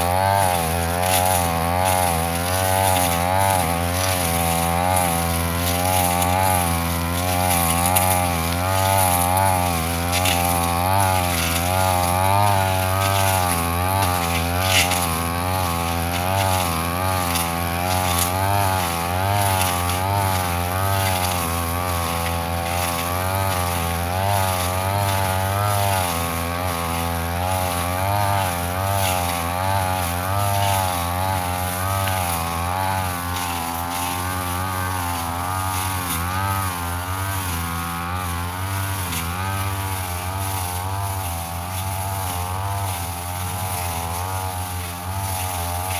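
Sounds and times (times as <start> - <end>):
brush cutter running: 0.0 - 45.9.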